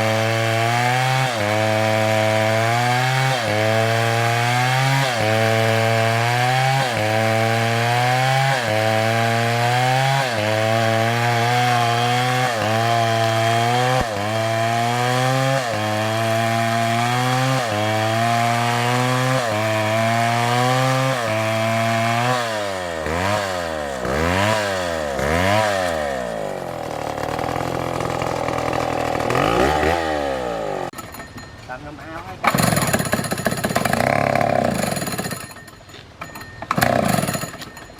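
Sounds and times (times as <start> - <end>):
chainsaw cutting wood: 0.0 - 31.4, 32.4 - 37.9.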